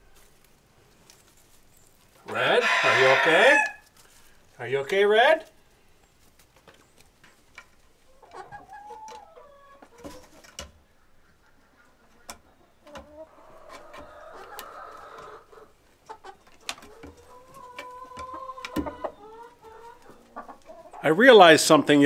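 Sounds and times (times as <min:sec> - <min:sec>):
chickens clucking and calling: 0:00.8 - 0:04.6, 0:05.4 - 0:21.4.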